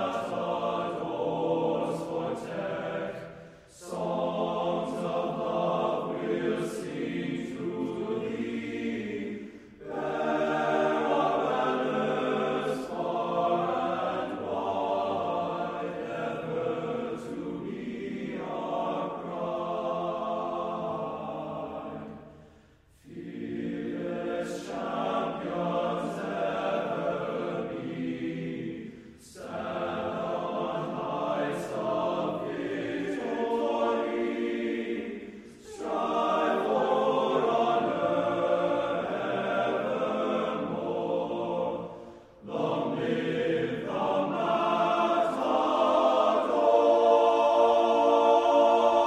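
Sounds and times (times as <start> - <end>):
choir singing sustained chords: 0.0 - 49.0.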